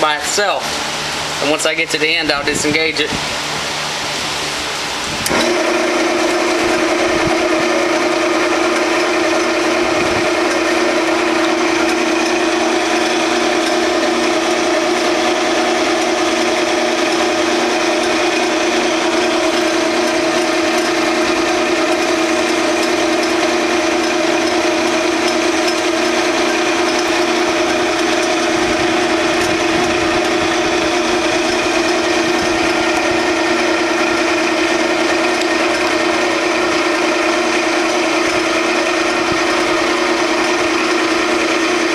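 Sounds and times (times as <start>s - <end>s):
metal lathe humming: 0.0s - 41.9s
knurler wheels rolling on metal: 5.3s - 41.9s.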